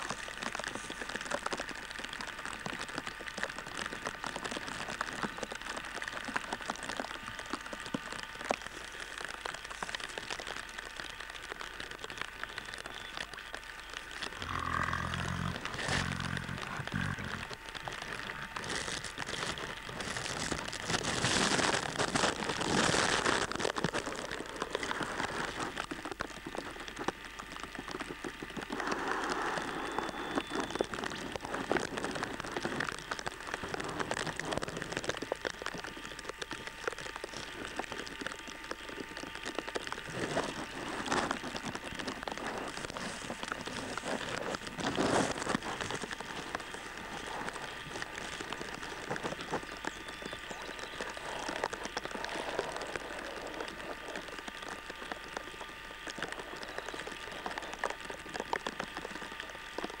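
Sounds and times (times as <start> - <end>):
rain falling: 0.0 - 28.9, 29.6 - 60.0.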